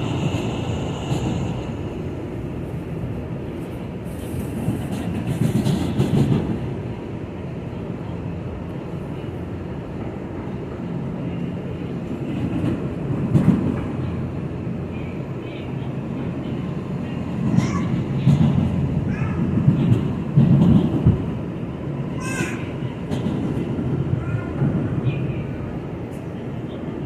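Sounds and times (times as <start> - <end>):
subway train rumbling on tracks: 0.0 - 27.0.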